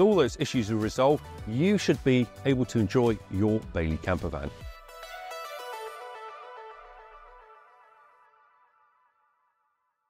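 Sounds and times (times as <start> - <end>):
background music: 0.0 - 9.2.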